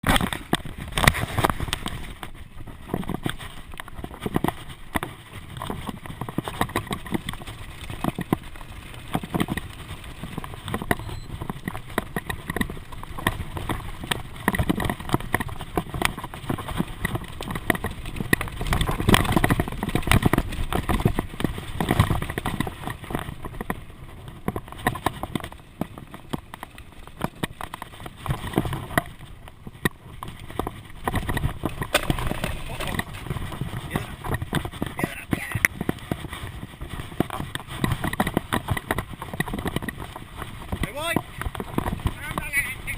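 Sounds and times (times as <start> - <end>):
bicycle rattling over bumps: 0.0 - 42.9
wind rumble on microphone: 0.0 - 42.9.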